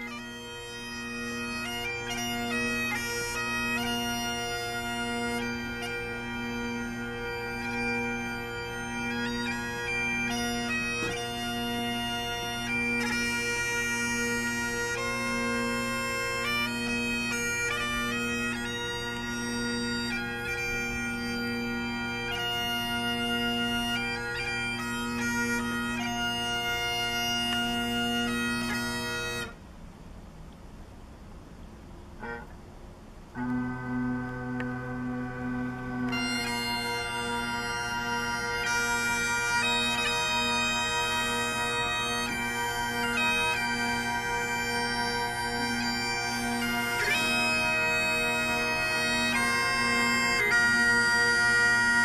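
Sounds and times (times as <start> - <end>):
bagpipes playing: 0.0 - 29.6, 32.2 - 32.5, 33.4 - 52.0.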